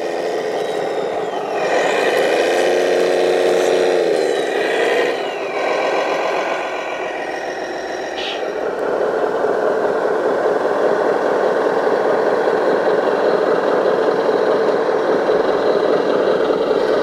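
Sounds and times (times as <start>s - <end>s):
toy truck engine revving: 0.0s - 17.0s.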